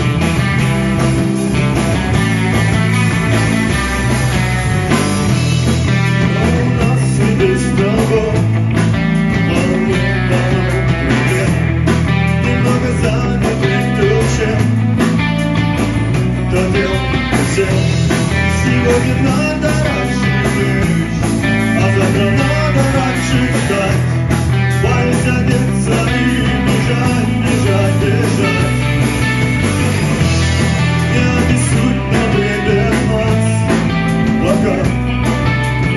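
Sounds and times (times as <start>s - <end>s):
rock band playing live: 0.0s - 35.9s.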